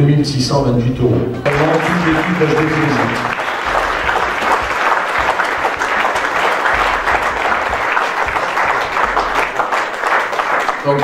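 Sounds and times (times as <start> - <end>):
audience clapping: 1.5 - 11.0.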